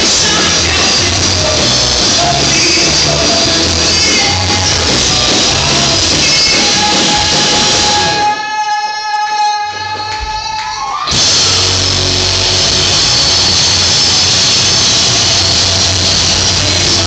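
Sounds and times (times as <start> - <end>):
live rock band playing: 0.0 - 8.5, 11.0 - 17.0.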